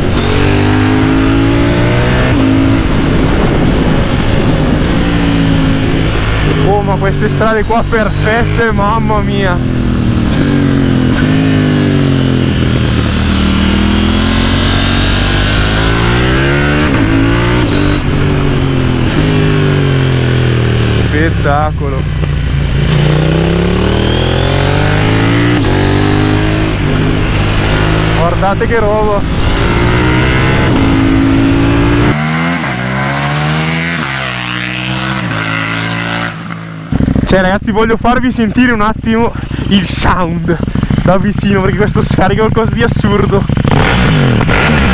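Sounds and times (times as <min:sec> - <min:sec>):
motorcycle engine under load: 0:00.0 - 0:44.9.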